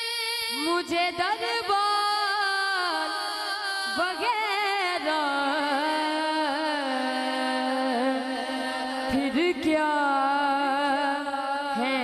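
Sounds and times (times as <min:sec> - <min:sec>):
boy singing into a microphone: 0:00.0 - 0:12.0.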